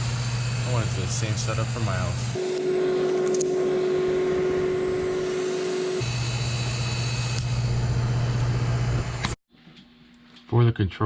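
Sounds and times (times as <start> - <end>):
condensing unit humming: 0.0 - 9.4.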